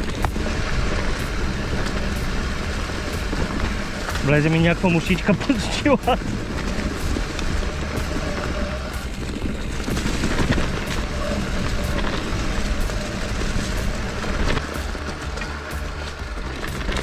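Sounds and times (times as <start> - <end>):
bike rattling over stones: 0.0 - 17.0
bike tyre noise: 0.0 - 17.0
wind rumbling on microphone: 0.0 - 17.0.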